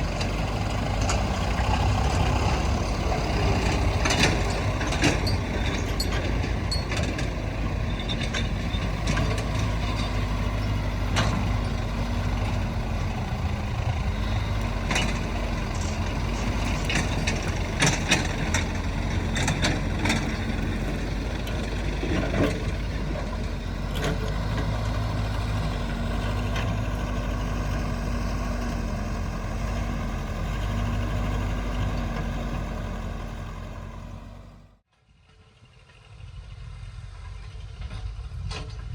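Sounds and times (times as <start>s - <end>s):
excavator diesel engine running: 0.0s - 34.8s.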